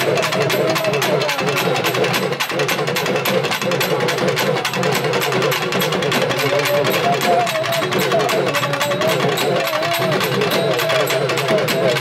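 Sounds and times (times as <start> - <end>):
barrel drums playing fast rhythm: 0.0 - 12.0.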